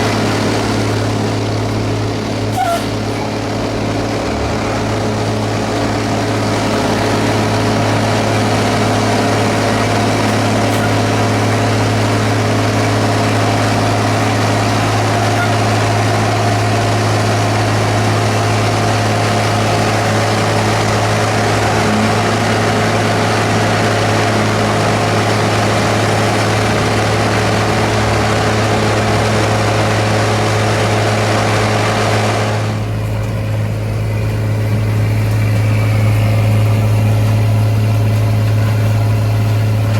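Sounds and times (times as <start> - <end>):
diesel tractor engine drone: 0.0 - 39.9.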